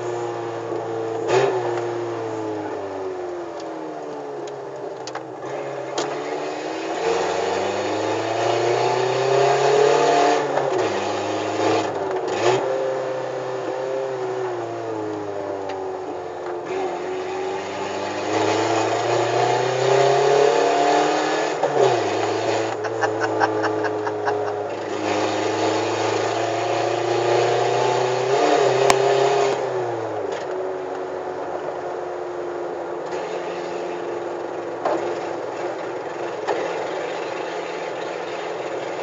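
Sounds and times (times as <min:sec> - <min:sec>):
car engine revving through gears: 0:00.0 - 0:03.7, 0:04.3 - 0:39.0.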